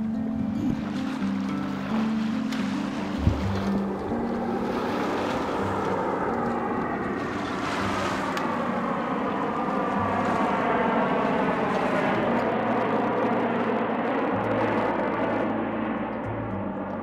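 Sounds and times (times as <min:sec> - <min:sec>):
fighter jet flying past: 0:00.0 - 0:17.0
water: 0:00.0 - 0:17.0
wind: 0:00.0 - 0:17.0.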